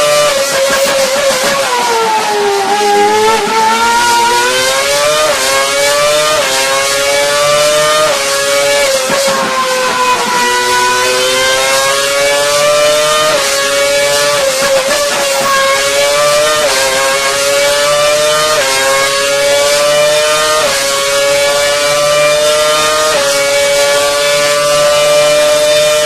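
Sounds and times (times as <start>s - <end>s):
racing car engine at high revs: 0.0s - 26.0s.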